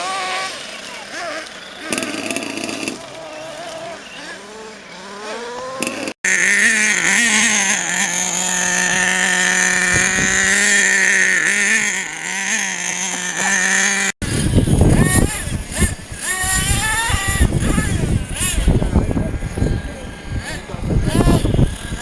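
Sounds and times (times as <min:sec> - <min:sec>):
small two-stroke engine revving: 0:00.0 - 0:22.0.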